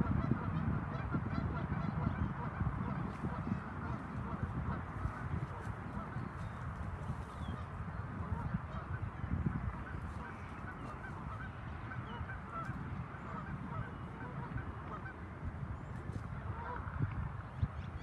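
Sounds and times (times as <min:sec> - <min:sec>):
geese honking: 0:00.0 - 0:16.9.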